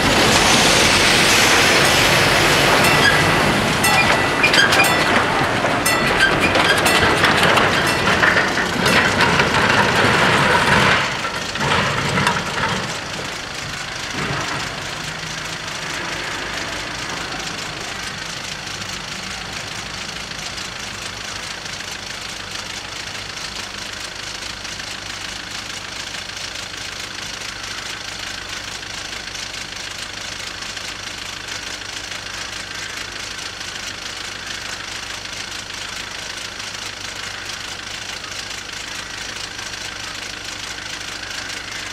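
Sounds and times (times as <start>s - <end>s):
engine hum: 0.0s - 41.9s
heavy lorries driving: 0.0s - 41.9s.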